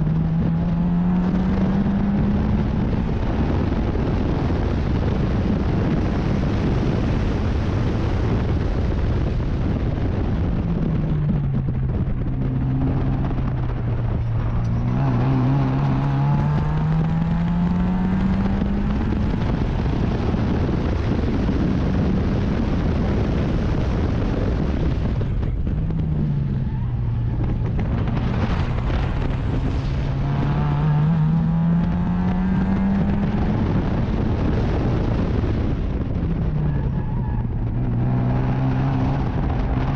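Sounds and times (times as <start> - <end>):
race car engine revving: 0.0 - 39.9
wind and road noise: 0.0 - 39.9.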